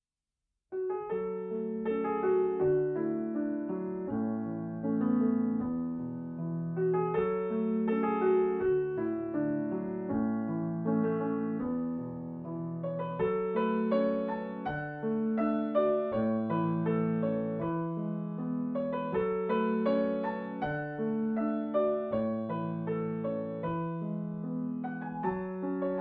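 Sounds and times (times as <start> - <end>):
slow piano music: 0.7 - 26.0.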